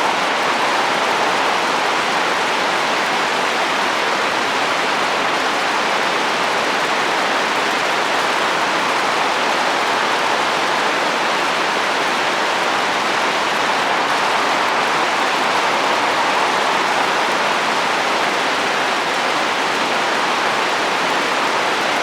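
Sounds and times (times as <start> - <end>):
heavy rain on a roof: 0.0 - 22.0.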